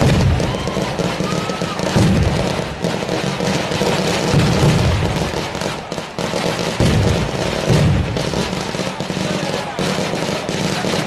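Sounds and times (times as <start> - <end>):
deep firework booms: 0.0 - 11.0
fireworks crackling and popping: 0.0 - 11.0.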